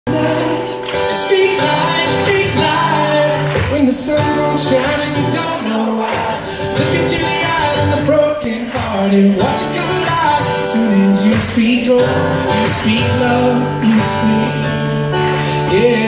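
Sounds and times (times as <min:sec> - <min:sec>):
person singing: 0:00.0 - 0:16.0
acoustic guitar strumming: 0:00.1 - 0:16.0.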